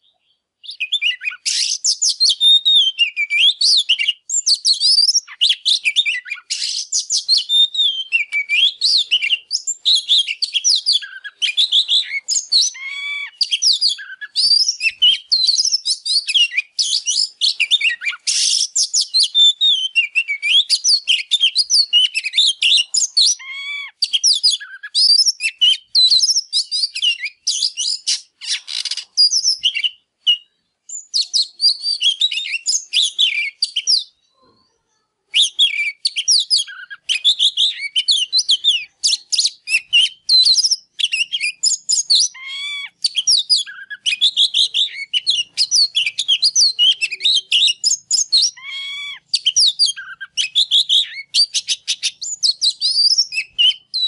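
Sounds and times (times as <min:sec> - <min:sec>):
bird song with whistles and trills: 0:00.0 - 0:54.0.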